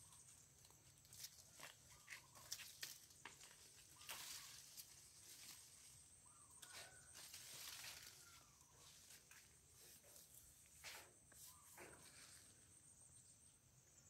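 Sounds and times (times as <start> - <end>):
leaves and twigs rustling: 0.0 - 12.8.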